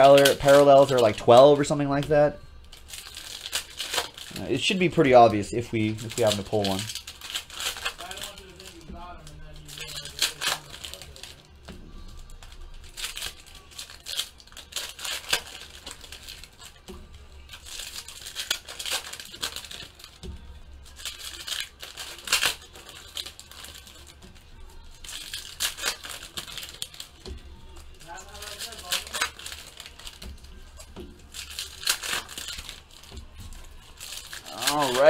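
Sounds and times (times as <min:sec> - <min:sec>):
foil wrappers crinkling and tearing: 0:00.0 - 0:35.0.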